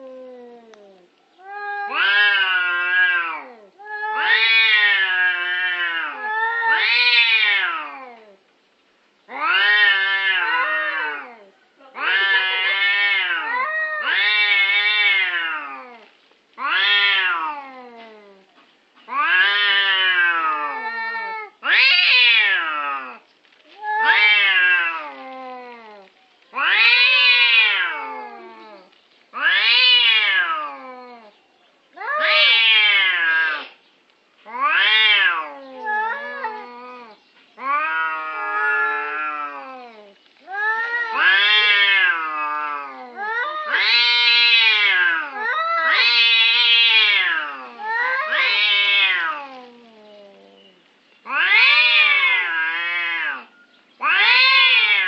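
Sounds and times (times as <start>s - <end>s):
cats yowling: 0.0s - 8.4s, 9.3s - 31.3s, 32.0s - 33.8s, 34.4s - 55.0s.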